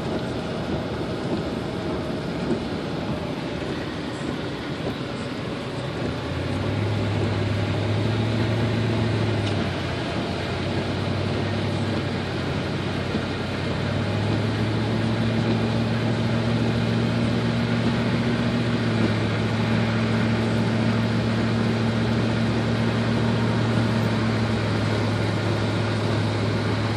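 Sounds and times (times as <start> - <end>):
low engine drone: 0.0 - 26.9
tyres hissing on wet pavement: 0.0 - 26.9.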